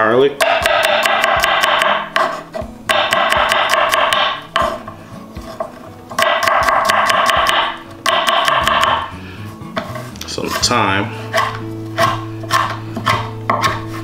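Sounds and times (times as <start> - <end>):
knife chopping on wooden board: 0.4 - 9.1, 9.8 - 14.0.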